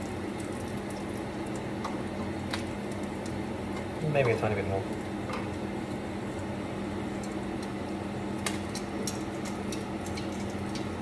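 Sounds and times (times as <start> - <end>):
meat frying in a pan: 0.0 - 11.0
steady mechanical hum: 0.0 - 11.0.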